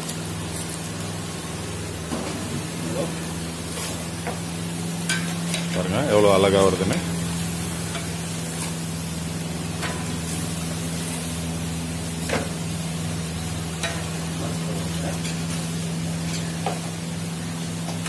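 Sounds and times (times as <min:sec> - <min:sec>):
dough sizzling in hot oil: 0:00.0 - 0:18.0.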